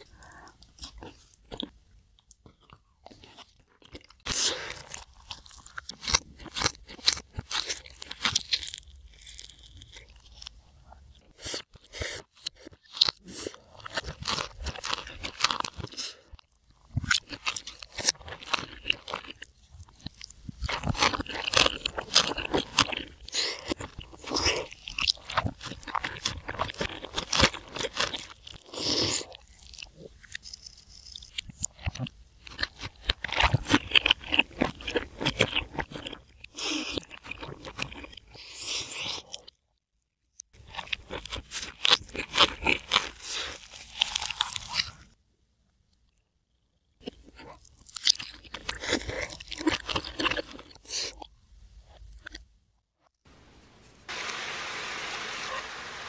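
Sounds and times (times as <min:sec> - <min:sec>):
person chewing and crunching food: 0:00.0 - 0:39.7, 0:40.3 - 0:45.2, 0:46.0 - 0:53.2.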